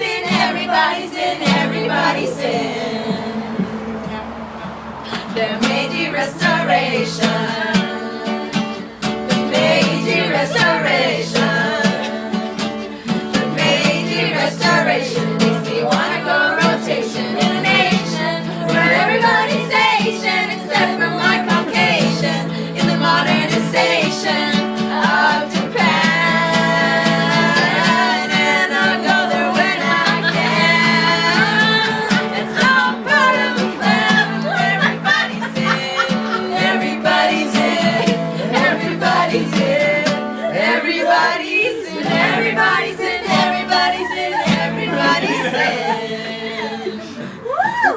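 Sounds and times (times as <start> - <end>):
person singing: 5.1 - 47.5.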